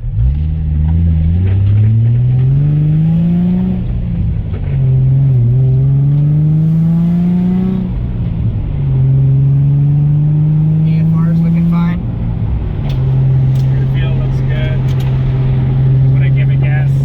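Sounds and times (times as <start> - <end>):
car engine accelerating through gears: 0.0 - 17.0.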